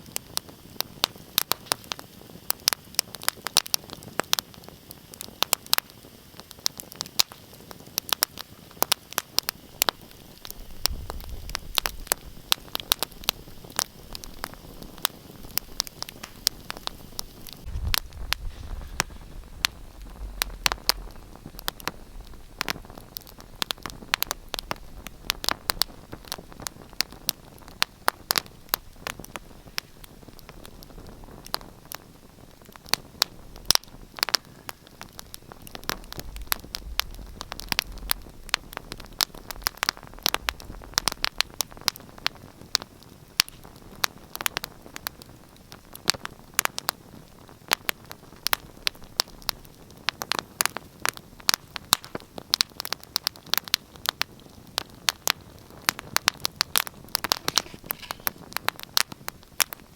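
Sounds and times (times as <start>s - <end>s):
low hiss of burning: 0.0s - 59.9s
wood fire crackling and popping: 0.0s - 59.9s.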